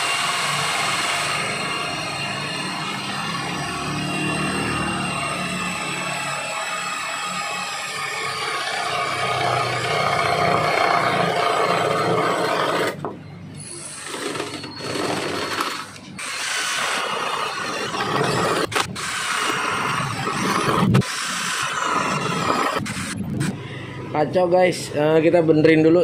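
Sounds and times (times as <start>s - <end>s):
drill boring through wood: 0.0s - 13.1s, 13.8s - 23.6s.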